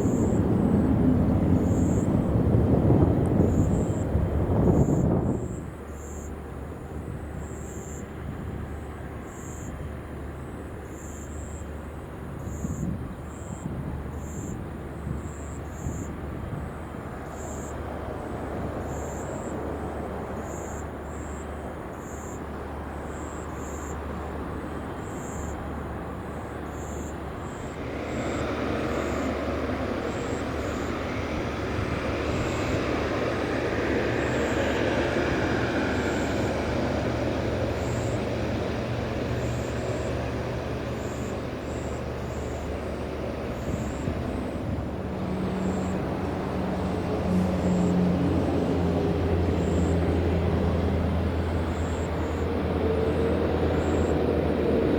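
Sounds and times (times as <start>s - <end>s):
jet engines roaring past: 0.0s - 54.9s.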